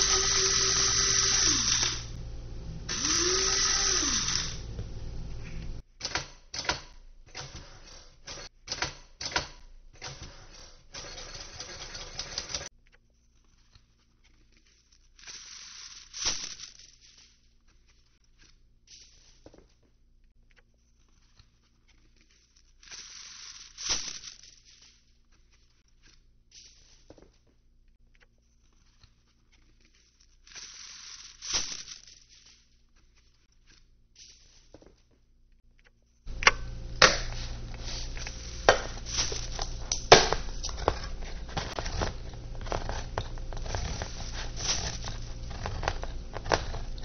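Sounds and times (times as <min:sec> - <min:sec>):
faint steady hum: 0:00.0 - 0:06.0, 0:12.1 - 0:47.0.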